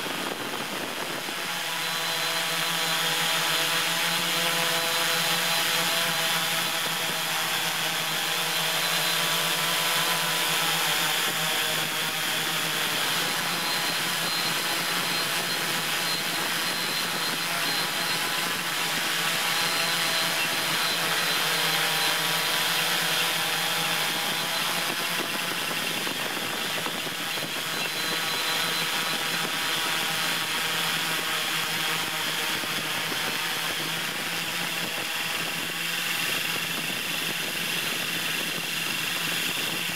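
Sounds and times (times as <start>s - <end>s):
drone motors humming: 0.0s - 39.9s.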